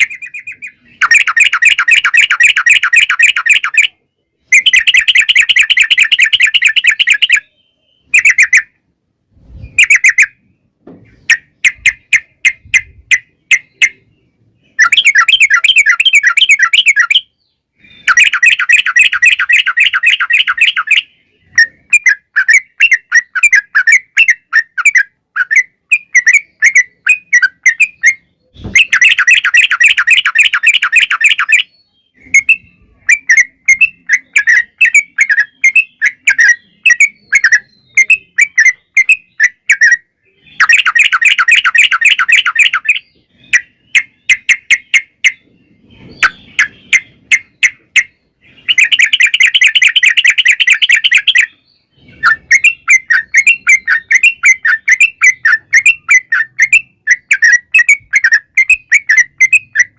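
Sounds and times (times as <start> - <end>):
bird singing rapid warbling song: 0.0 - 59.9.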